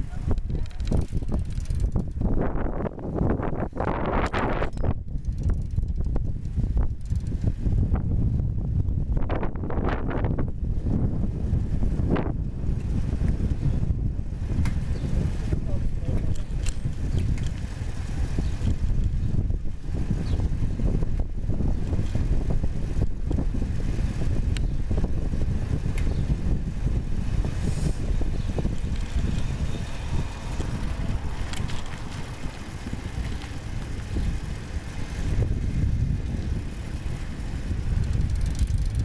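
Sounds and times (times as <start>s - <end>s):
bicycle clicks and rattles: 0.0s - 8.1s, 14.4s - 39.0s
wind buffeting microphone: 0.0s - 39.0s.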